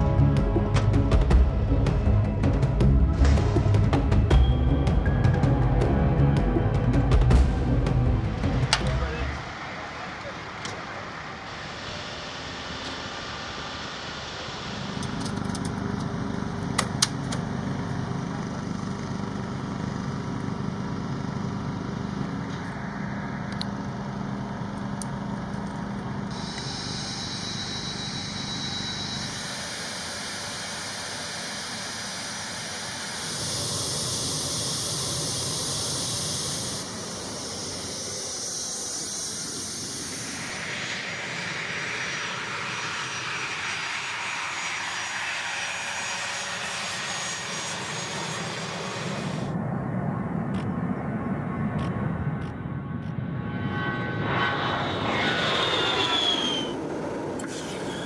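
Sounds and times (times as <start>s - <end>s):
jet engine whine: 0.0s - 58.0s
low machinery hum: 0.0s - 58.0s.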